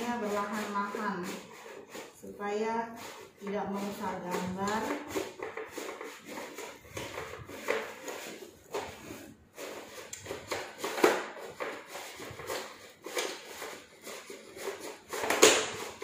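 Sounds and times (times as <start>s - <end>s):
light knocks and scrapes: 0.0s - 16.0s
paper banner rustling: 2.9s - 16.0s.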